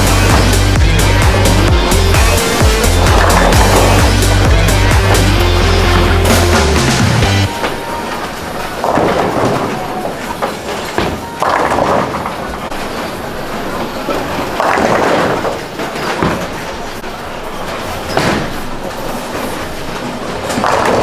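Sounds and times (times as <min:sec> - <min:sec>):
bowling balls rumbling: 0:00.0 - 0:17.0, 0:17.6 - 0:21.0.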